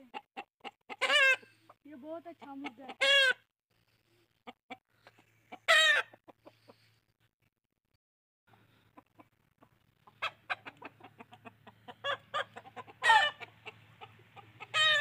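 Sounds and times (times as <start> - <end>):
chickens clucking: 0.0 - 7.1, 8.5 - 15.0.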